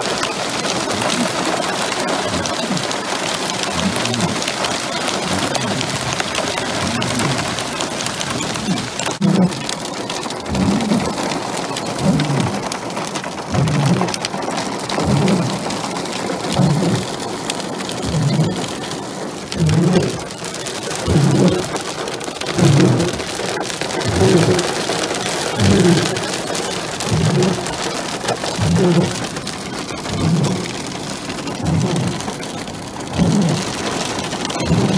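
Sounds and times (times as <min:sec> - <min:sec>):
hail pelting car roof: 0:00.0 - 0:34.9
windshield wipers sweeping: 0:00.0 - 0:34.9.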